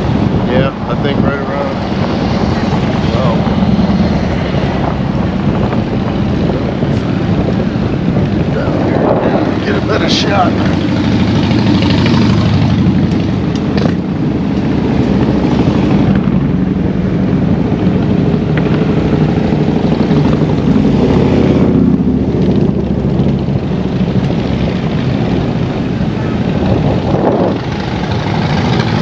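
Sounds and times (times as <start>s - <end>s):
road and wind noise: 0.0s - 29.0s
vehicle engines running: 0.0s - 29.0s.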